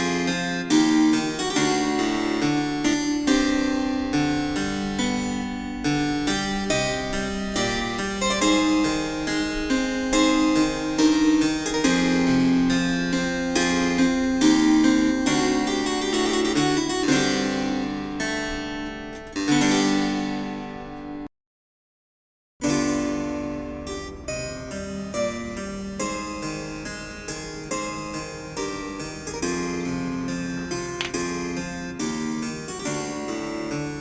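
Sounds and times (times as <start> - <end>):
harpsichord music from small speaker: 0.0 - 21.3, 22.6 - 34.0.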